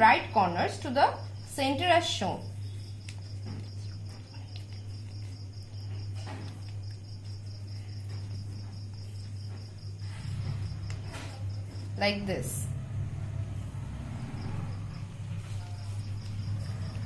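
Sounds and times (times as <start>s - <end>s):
steady low hum: 0.0s - 17.0s
cricket chirping: 0.5s - 17.0s.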